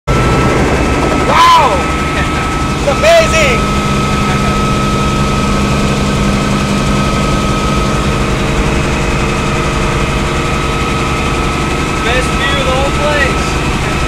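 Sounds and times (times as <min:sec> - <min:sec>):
helicopter engine and rotor: 0:00.1 - 0:14.0.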